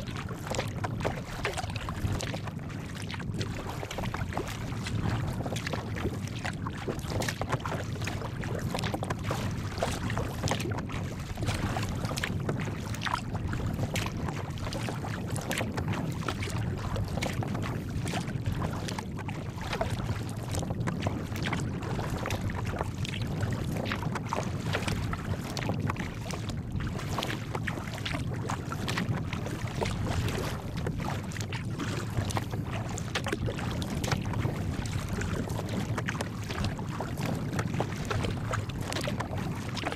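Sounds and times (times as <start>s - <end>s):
water splashing against kayak hull: 0.0s - 39.9s
wind buffeting microphone: 0.0s - 39.9s.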